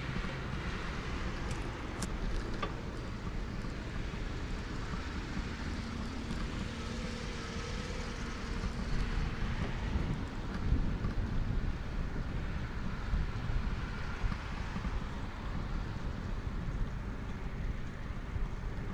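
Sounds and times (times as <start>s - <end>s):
wind rumble on microphone: 0.0s - 18.9s.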